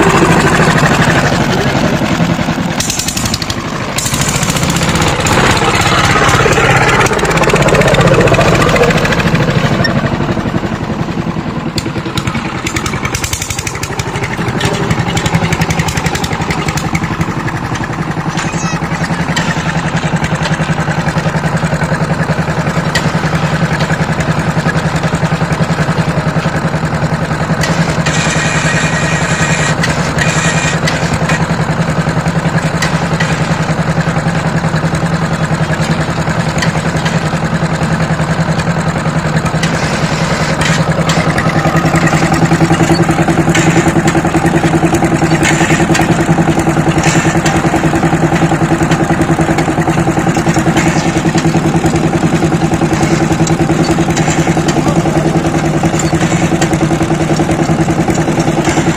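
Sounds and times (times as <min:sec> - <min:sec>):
power tiller engine running: 0:00.0 - 0:58.9.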